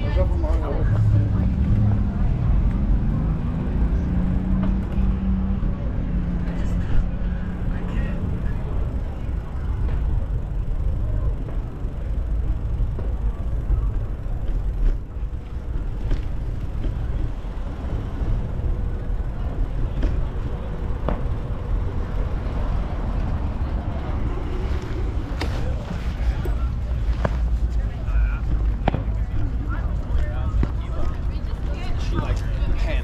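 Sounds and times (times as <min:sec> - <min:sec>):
passing traffic: 0:00.0 - 0:33.0
wind and road noise: 0:00.0 - 0:33.0.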